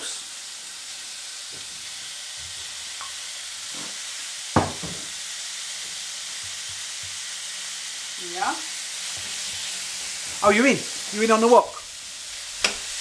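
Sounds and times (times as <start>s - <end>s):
beef sizzling in a wok: 0.0s - 13.0s.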